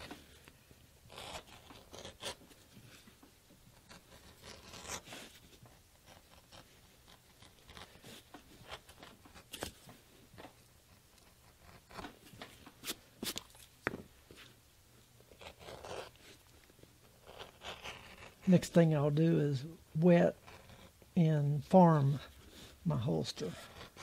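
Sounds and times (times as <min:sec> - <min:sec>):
edger scraping leather: 0:00.0 - 0:13.7, 0:15.3 - 0:18.8, 0:20.3 - 0:21.1, 0:22.1 - 0:24.0.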